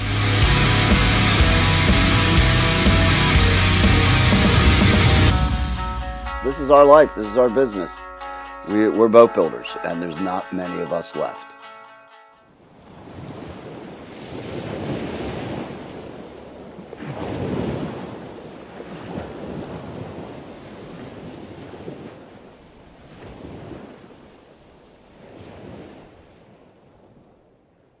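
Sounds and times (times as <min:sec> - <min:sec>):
ocean surf rushing: 0:00.0 - 0:11.5, 0:12.6 - 0:26.3.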